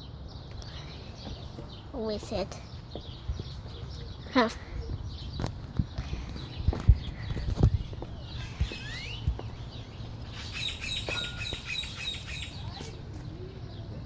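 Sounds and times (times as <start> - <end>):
small bird chirping: 0.3 - 14.0.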